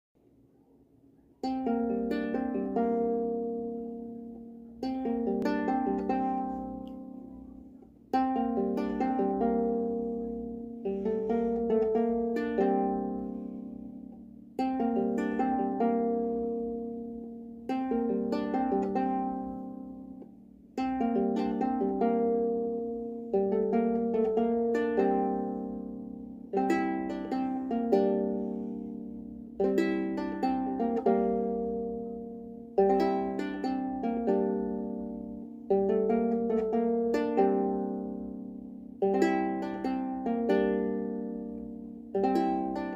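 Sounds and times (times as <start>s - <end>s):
lyre strummed chords: 1.4s - 42.9s.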